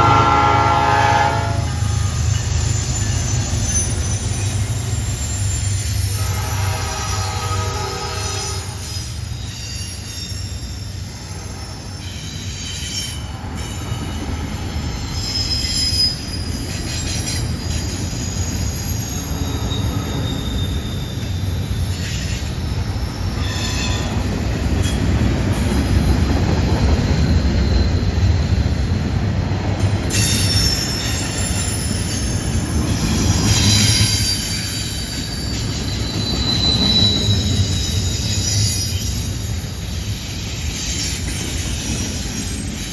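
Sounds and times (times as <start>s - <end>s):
train wheels rumbling on rail: 0.0s - 42.9s
high-pitched wheel squeal: 1.0s - 14.1s, 14.8s - 25.0s, 30.1s - 42.6s.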